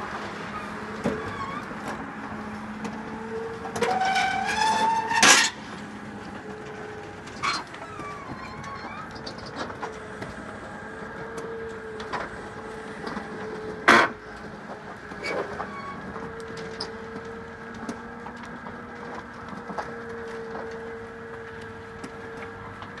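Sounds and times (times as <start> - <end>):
roller shutter motor humming: 0.0 - 23.0.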